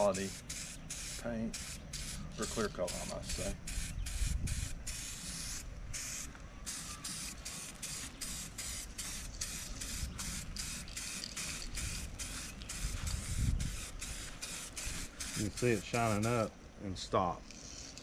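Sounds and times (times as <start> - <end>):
spray can hissing: 0.0 - 16.4.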